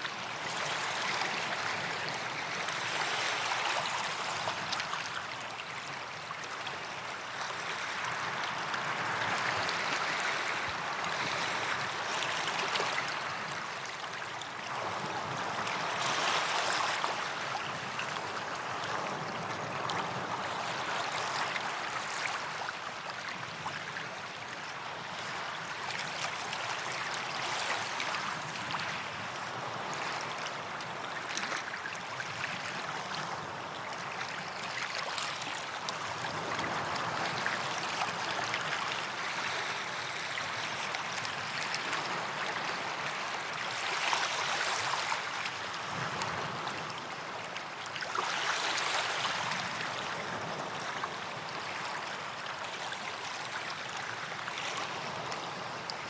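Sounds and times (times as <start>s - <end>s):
small waves lapping on sand: 0.0s - 56.0s.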